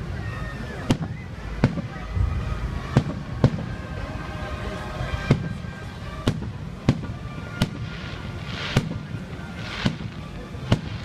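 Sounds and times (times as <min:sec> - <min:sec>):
background rumble: 0:00.0 - 0:11.0
fireworks bangs: 0:00.8 - 0:11.0.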